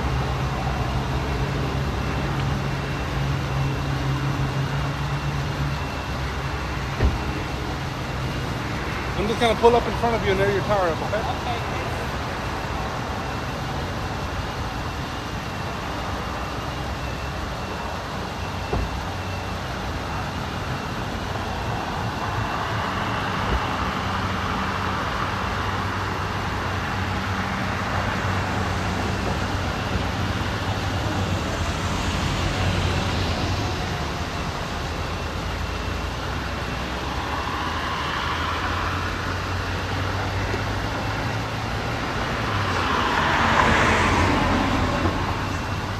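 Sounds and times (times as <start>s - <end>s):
highway traffic: 0.0s - 45.9s
vehicles passing: 0.0s - 45.9s.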